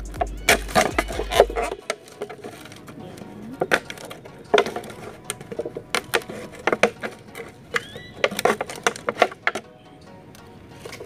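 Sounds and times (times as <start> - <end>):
knife cutting plastic jug: 0.6 - 9.7.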